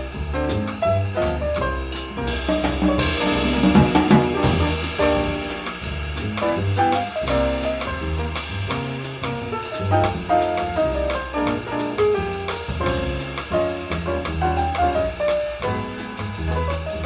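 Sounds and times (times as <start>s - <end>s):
bass line: 0.0s - 17.0s
drum kit cymbals: 0.0s - 17.0s.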